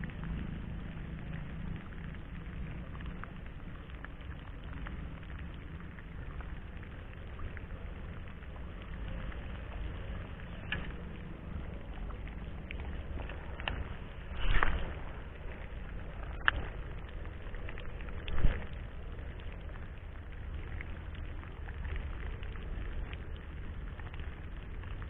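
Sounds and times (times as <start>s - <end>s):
drops ticking: 0.0s - 25.0s
light rain pattering: 0.0s - 25.0s
steady low rumble: 0.0s - 25.0s.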